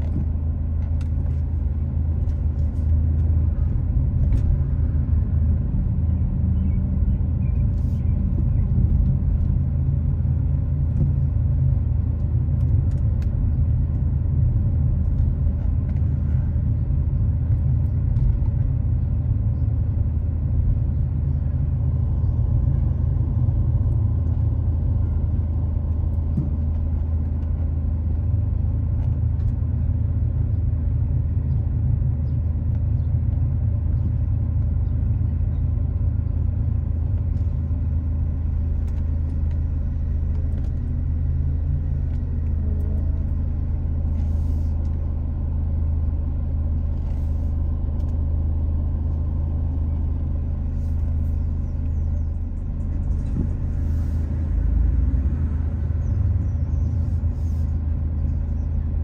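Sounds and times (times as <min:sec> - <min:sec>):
motor vehicle rumble: 0:00.0 - 0:59.0.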